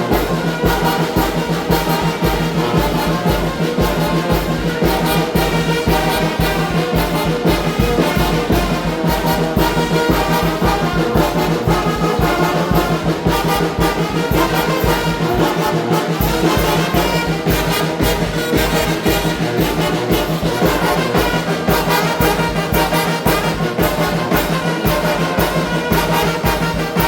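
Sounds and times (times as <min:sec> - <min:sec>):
brass band playing: 0:00.0 - 0:27.0
steady low beat: 0:00.0 - 0:27.0.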